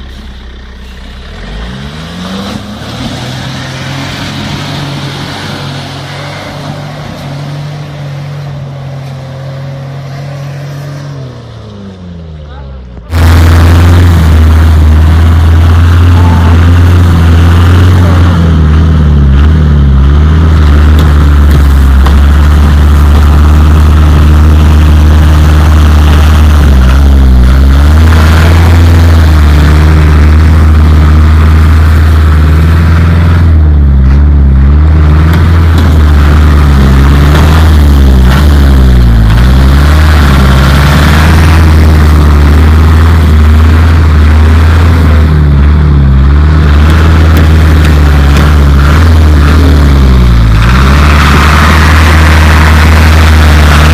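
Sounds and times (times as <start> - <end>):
engine revving hard: 1.3 - 8.3, 13.1 - 53.9.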